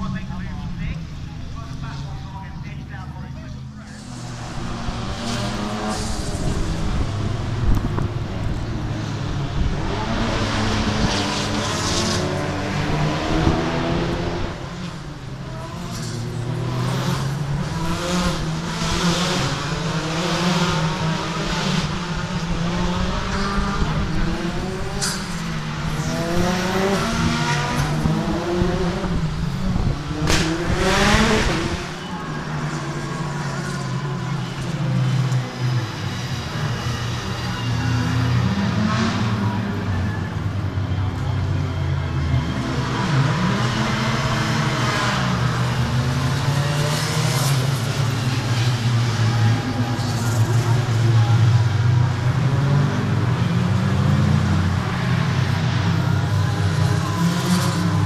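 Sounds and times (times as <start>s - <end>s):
racing car engines passing: 0.0s - 58.0s.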